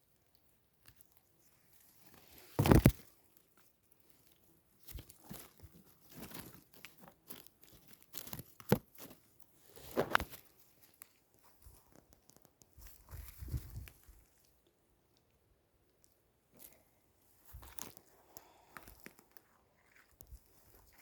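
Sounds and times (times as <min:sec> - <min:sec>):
crunching and rustling: 0:00.2 - 0:14.6, 0:16.0 - 0:21.0.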